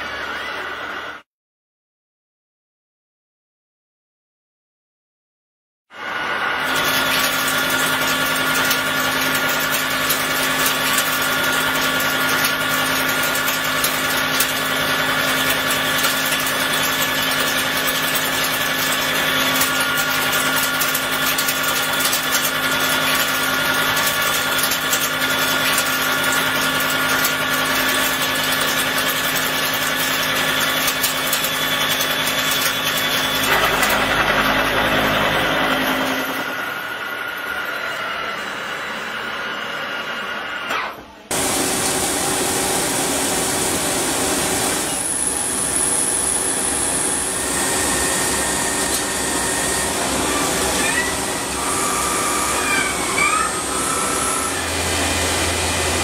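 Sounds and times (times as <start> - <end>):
milling machine cutting metal: 6.0 - 56.0.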